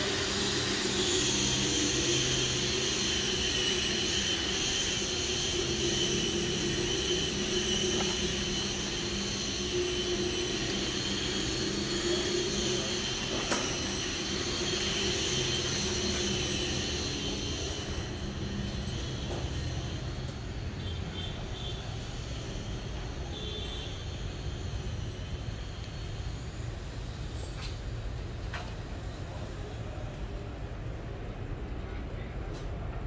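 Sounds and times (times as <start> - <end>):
floor grinding machine whine: 0.0 - 30.5.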